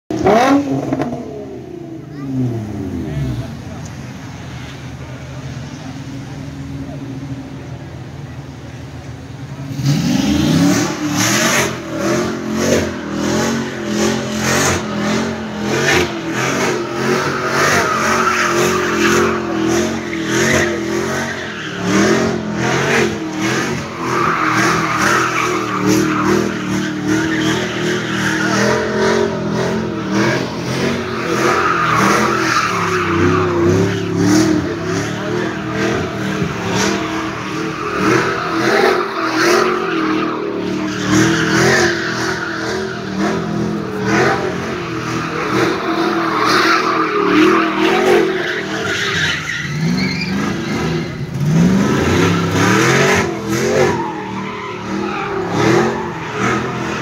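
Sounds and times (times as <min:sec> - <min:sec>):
car engine revving: 0:00.1 - 0:57.0
tyres spinning and squealing: 0:01.9 - 0:57.0.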